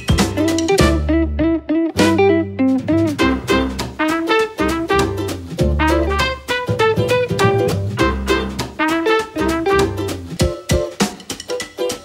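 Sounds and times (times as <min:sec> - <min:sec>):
plucked string instrument music: 0:00.0 - 0:12.0.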